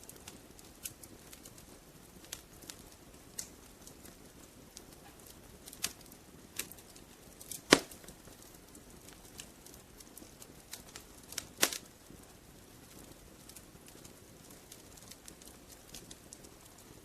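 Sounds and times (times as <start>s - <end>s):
faint hiss: 0.0s - 17.0s
wood fire crackling and popping: 0.0s - 17.0s.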